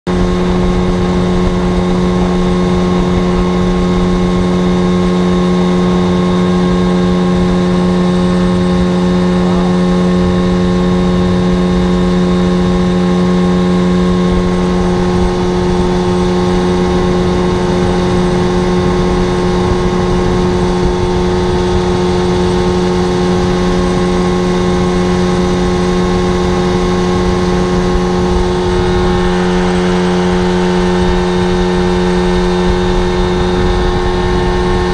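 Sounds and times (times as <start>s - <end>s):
outboard motor running: 0.0s - 34.9s
water rushing from boat wake: 0.1s - 34.9s.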